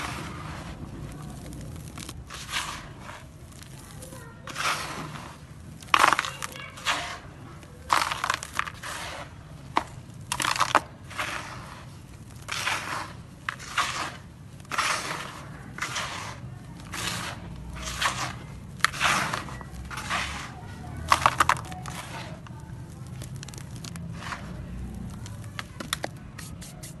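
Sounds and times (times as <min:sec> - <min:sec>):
sand-cement chunks crumbled by hand: 0:00.0 - 0:27.0.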